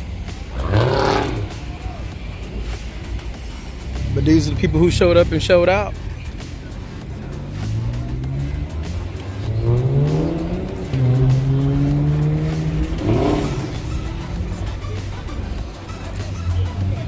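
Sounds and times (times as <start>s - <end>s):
background music: 0.0s - 17.0s
car engine revving: 0.0s - 17.0s.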